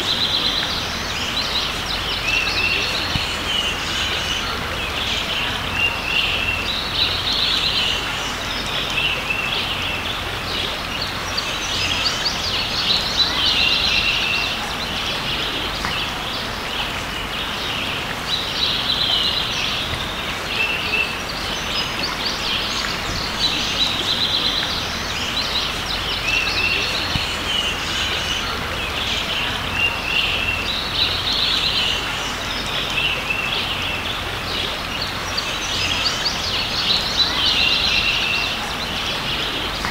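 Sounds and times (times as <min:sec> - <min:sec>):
creek rushing: 0:00.0 - 0:39.9
songbirds chirping and singing: 0:00.0 - 0:39.9.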